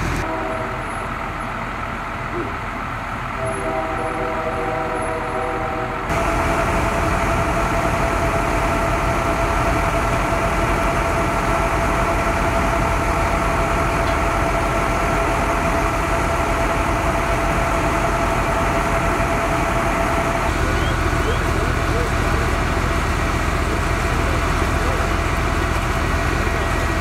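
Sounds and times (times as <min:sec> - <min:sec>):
fire engine rumble: 0:00.0 - 0:27.0.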